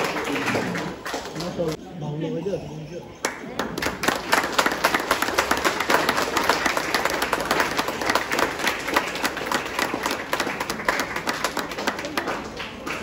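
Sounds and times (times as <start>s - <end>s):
audience applauding: 0.0s - 1.8s, 3.2s - 13.0s.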